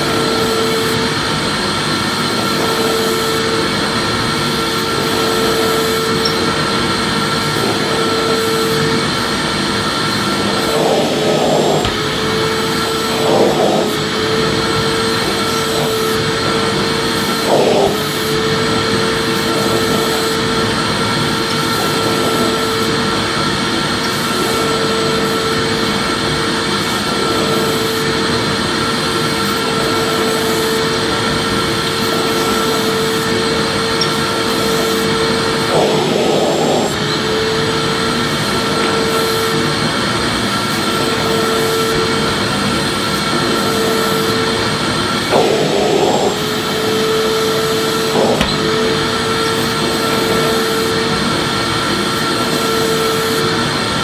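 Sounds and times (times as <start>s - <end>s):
vacuum cleaner motor running: 0.0s - 54.0s.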